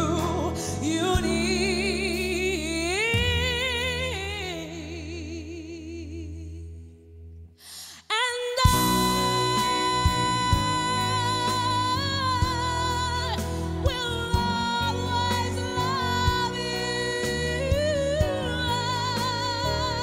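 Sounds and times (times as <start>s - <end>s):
low band accompaniment: 0.0s - 4.7s, 8.7s - 20.0s
woman singing with vibrato: 0.0s - 6.7s, 7.7s - 20.0s.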